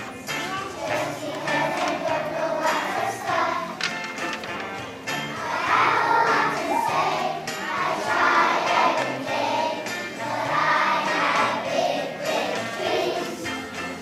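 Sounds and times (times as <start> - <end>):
children singing together: 0.0 - 3.8, 5.2 - 14.0
musical accompaniment: 0.0 - 14.0.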